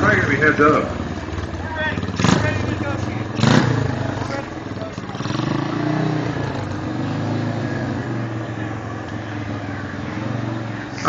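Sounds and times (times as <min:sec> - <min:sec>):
lawn mower engine idling: 0:00.0 - 0:11.0.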